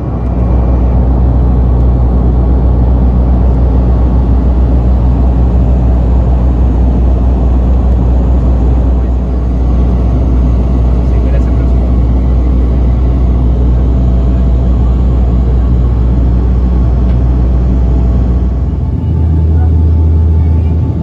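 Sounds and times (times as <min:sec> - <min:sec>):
turboprop engines droning in cabin: 0:00.0 - 0:21.0.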